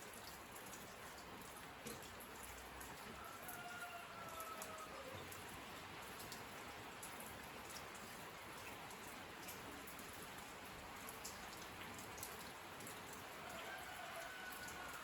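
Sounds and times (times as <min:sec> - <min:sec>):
single raindrops ticking: 0:00.0 - 0:15.0
steady rain hiss: 0:00.0 - 0:15.0.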